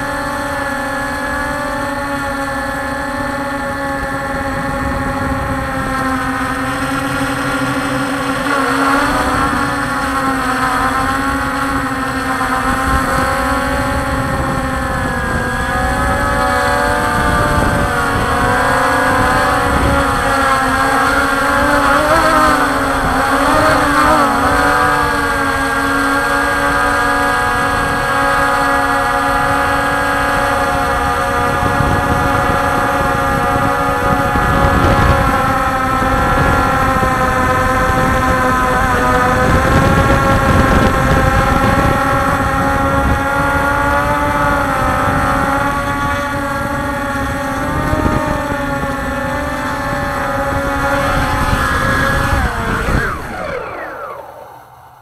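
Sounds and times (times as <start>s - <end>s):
drone motors whining: 0.0s - 55.0s
wind rumbling on microphone: 0.0s - 55.0s.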